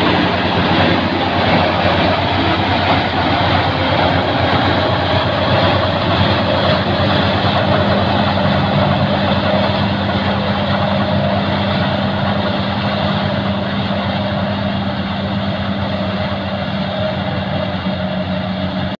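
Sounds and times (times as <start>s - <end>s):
combine harvester running: 0.0s - 18.9s.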